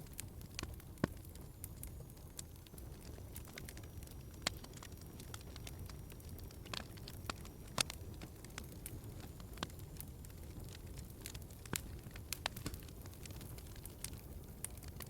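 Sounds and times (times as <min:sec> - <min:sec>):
fire pops and snaps: 0:00.0 - 0:15.0
low rumble of flames: 0:00.0 - 0:15.0.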